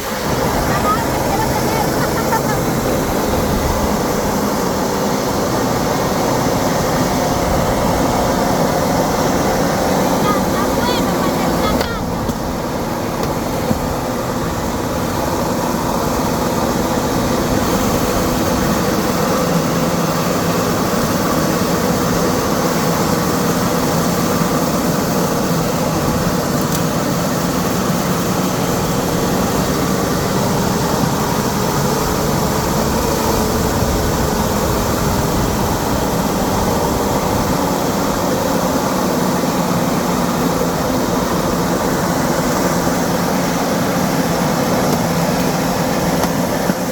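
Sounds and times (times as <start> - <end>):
rushing noise: 0.0 - 46.9
vehicle engine droning: 0.0 - 46.9.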